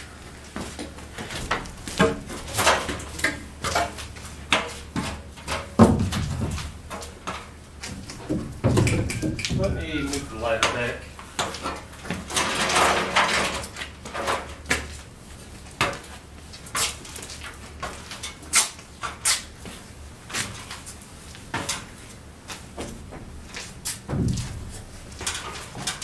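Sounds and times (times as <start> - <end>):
knocks and clacks of wood and tools: 0.4 - 26.0.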